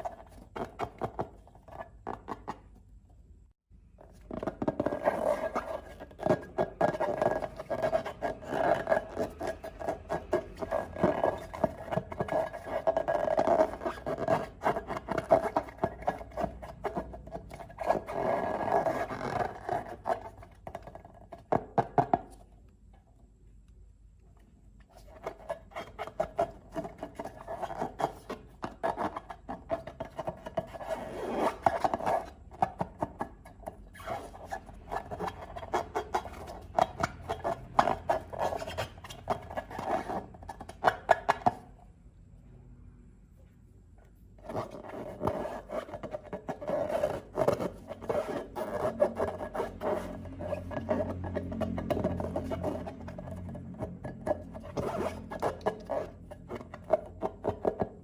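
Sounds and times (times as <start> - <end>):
slime being mixed: 3.9 - 21.5, 24.8 - 41.8, 44.4 - 58.0.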